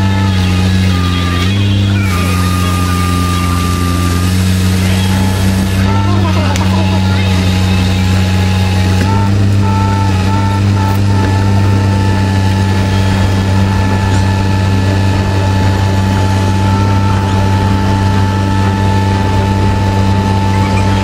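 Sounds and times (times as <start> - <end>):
machine engine humming: 0.0 - 21.0
thin steady whine: 0.0 - 21.0.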